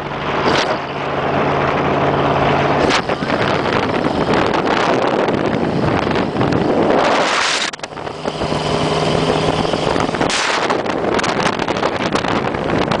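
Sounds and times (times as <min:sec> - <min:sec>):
dune buggy engine hum: 0:00.0 - 0:13.0
wind buffeting on microphone: 0:00.0 - 0:13.0.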